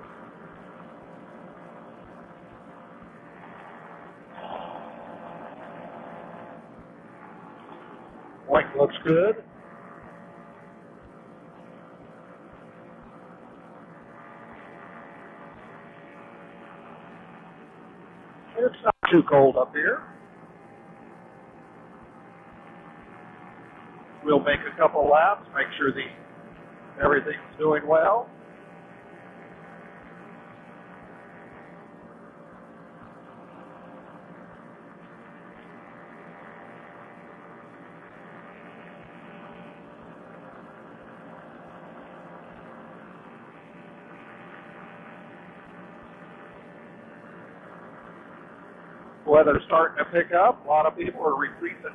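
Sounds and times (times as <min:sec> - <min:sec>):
muffled engine drone: 0:00.0 - 0:51.9.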